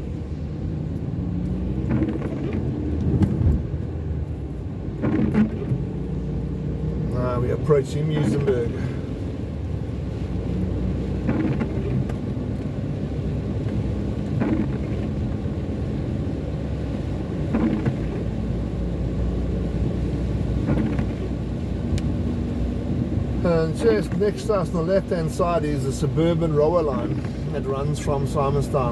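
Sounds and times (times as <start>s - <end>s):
car road and engine rumble: 0.0s - 28.9s.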